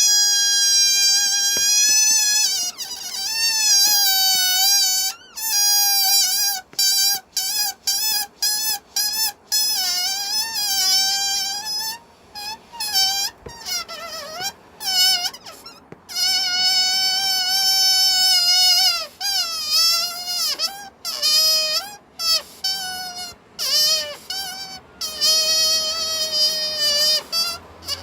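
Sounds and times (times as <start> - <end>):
air squealing out of balloon: 0.0 - 28.0.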